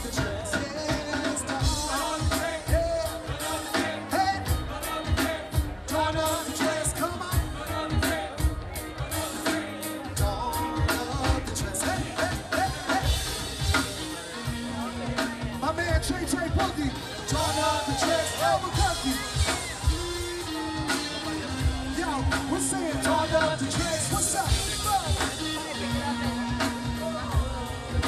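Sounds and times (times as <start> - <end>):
bass guitar: 0.0 - 28.0
drums: 0.0 - 28.0
person singing: 0.0 - 28.0.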